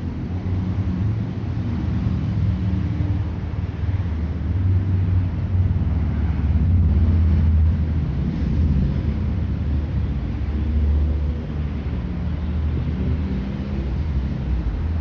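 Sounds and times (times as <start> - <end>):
passing car engines rumbling: 0.0 - 15.0.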